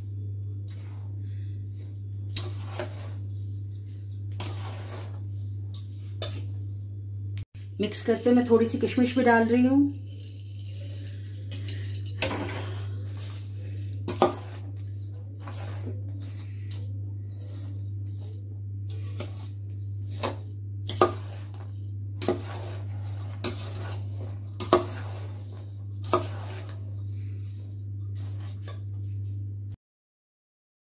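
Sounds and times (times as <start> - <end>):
spoon scraping dry mixture: 0.0 - 6.8, 9.9 - 29.4
steady low hum: 0.0 - 29.8.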